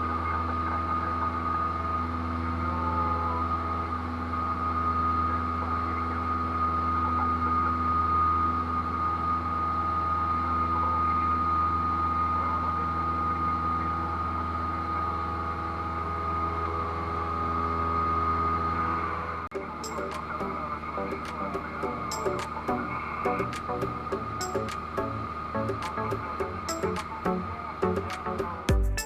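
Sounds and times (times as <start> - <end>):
airplane engine droning in cockpit: 0.0 - 28.7.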